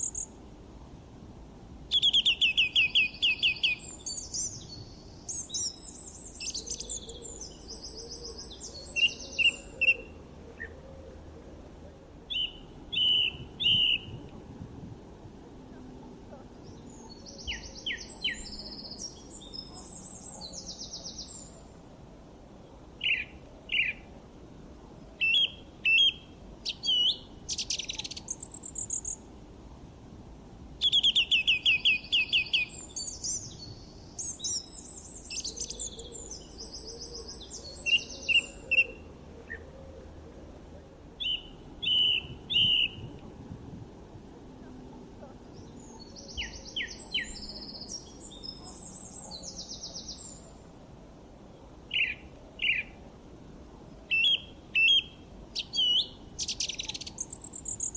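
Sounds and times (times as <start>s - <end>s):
songbirds chirping and trilling: 0.0s - 0.5s, 1.9s - 14.4s, 15.2s - 29.4s, 30.7s - 57.9s
faint background hiss: 0.0s - 57.9s.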